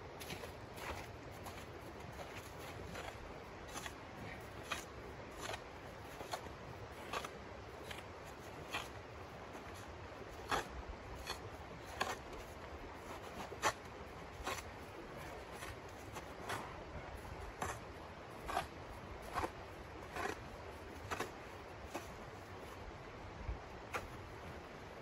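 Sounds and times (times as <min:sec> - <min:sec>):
shovel crunching into crusty snow: 0:00.2 - 0:09.0, 0:09.6 - 0:22.8.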